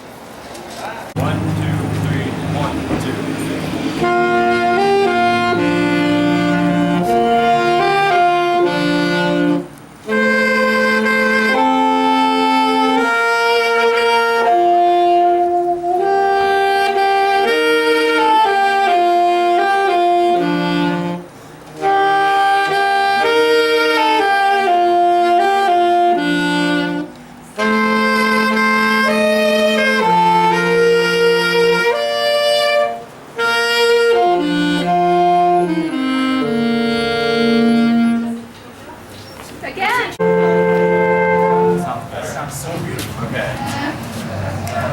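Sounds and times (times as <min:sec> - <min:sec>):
wind ensemble playing slow chords: 0:01.2 - 0:38.5, 0:40.2 - 0:44.4.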